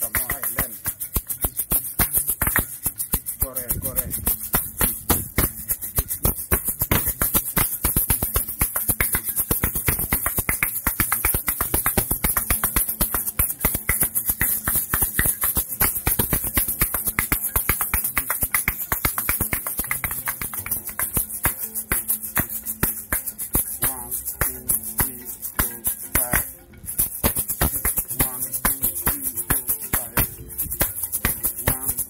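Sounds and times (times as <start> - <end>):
shaker filling rattling: 0.0 - 32.0
shakers clacking rapidly: 0.0 - 32.0.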